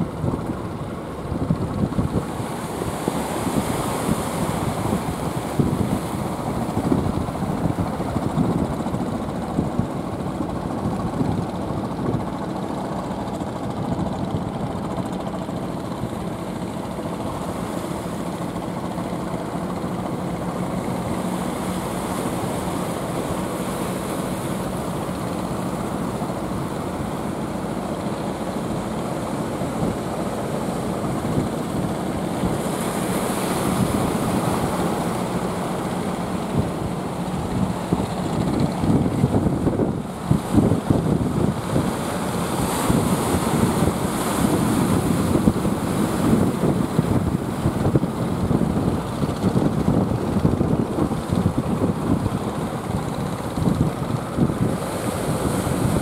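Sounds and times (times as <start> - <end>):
boat engines humming: 0.0 - 56.0
waves breaking: 0.0 - 56.0.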